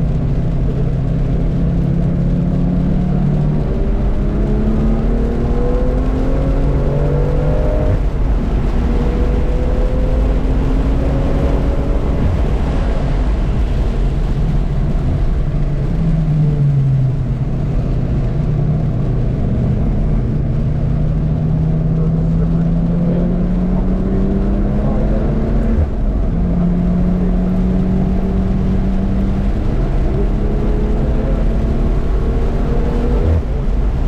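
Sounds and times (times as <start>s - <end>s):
race car engine accelerating: 0.0s - 17.4s, 18.1s - 34.0s
road noise: 0.0s - 34.0s.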